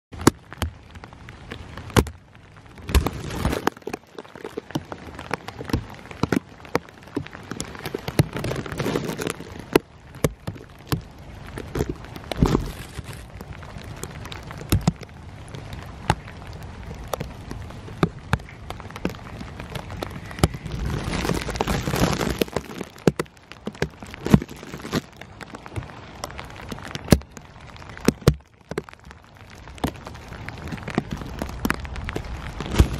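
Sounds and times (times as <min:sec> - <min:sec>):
raindrops ticking on surfaces: 0:00.1 - 0:32.9
steady rain hiss: 0:00.2 - 0:32.9.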